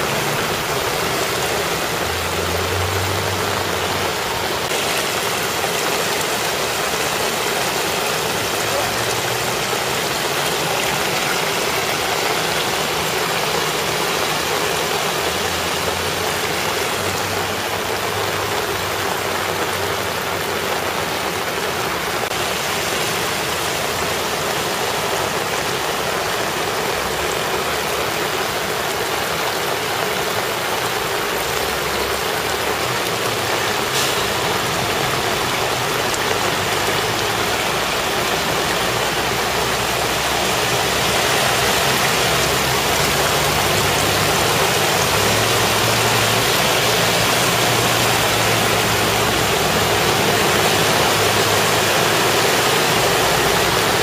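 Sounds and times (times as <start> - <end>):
car engines passing: 0.0 - 54.0
heavy rain and floodwater rushing: 0.0 - 54.0
tyres splashing through water: 0.0 - 54.0.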